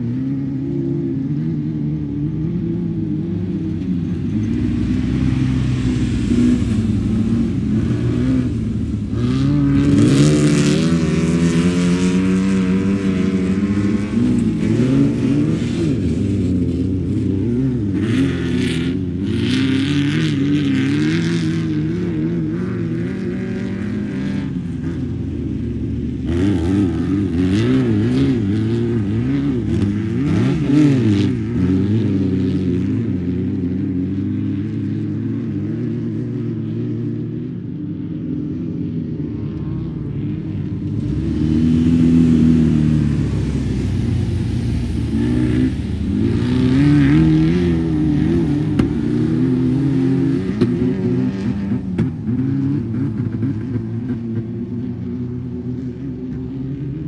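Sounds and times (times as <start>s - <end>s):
race car engine revving: 2.5s - 33.9s, 39.6s - 56.5s.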